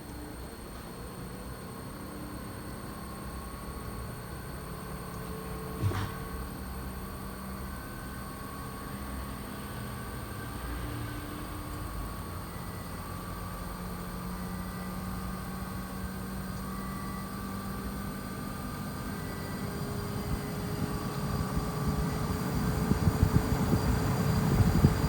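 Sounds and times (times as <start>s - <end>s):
fan and airflow noise: 3.0s - 25.0s.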